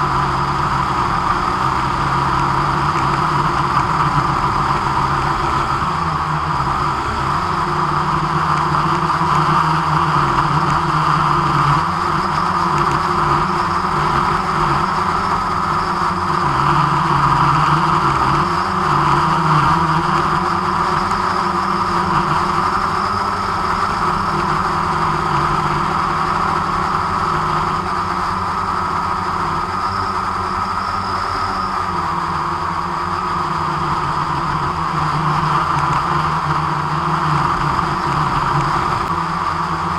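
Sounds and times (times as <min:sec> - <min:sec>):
drone propellers humming: 0:00.0 - 0:39.9.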